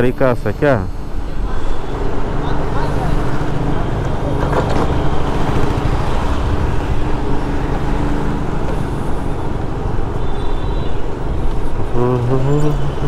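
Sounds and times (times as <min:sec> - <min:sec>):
road traffic engines: 0:00.0 - 0:13.0.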